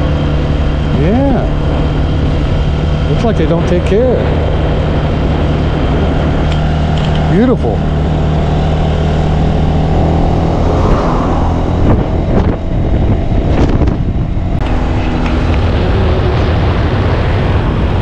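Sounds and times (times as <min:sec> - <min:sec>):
motorbike engine running: 0:00.0 - 0:17.8
wind on microphone: 0:00.0 - 0:18.0.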